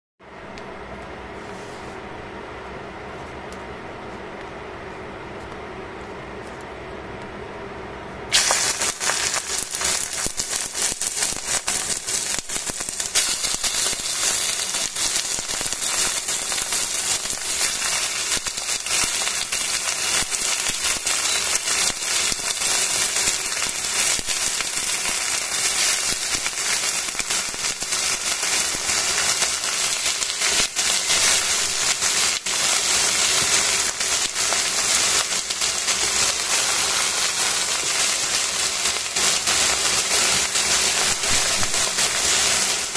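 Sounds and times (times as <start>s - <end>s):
chicken sizzling in hot oil: 8.3s - 42.9s.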